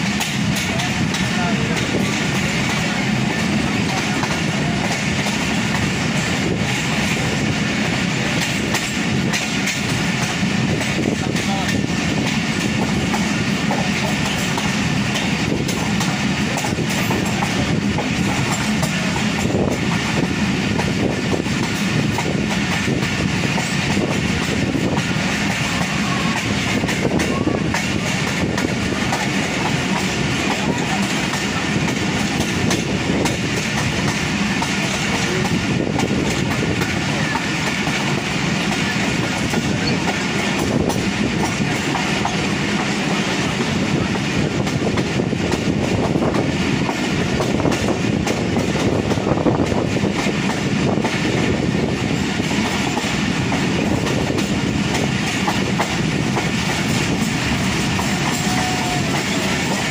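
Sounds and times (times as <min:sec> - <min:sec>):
rail-joint clickety-clack: 0:00.0 - 0:59.9
train wheels rumbling on rails: 0:00.0 - 0:59.9.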